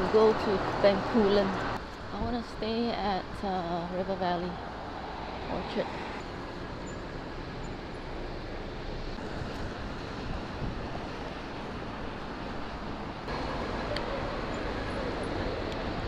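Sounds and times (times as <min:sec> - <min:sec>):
road traffic: 0:00.0 - 0:16.0
wind: 0:00.0 - 0:16.0.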